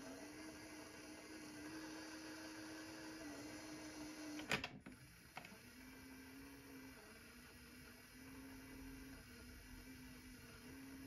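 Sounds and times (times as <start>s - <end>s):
tiny electric motor whine: 0.0s - 11.0s.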